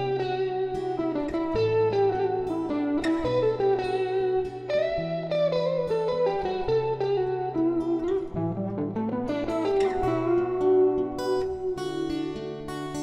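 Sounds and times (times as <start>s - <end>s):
plucked guitar: 0.0s - 13.0s.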